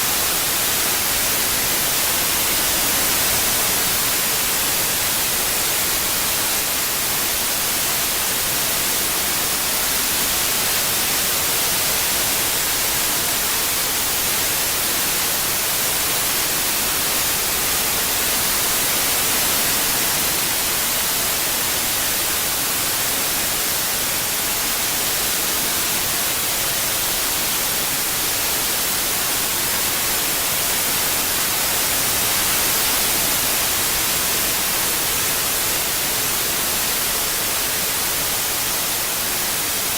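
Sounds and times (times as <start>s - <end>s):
continuous white noise hiss: 0.0s - 39.9s.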